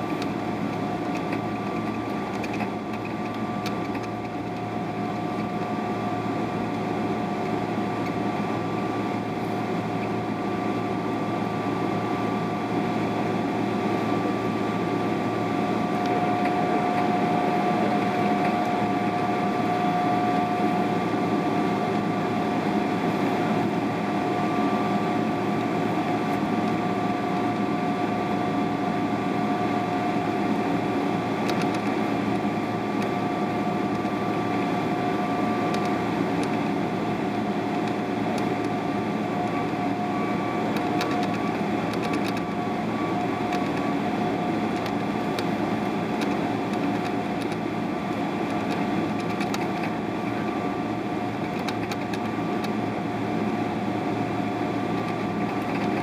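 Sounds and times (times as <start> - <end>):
rushing hum of engines and air: 0.0 - 56.0
steady whining tones: 0.0 - 56.0.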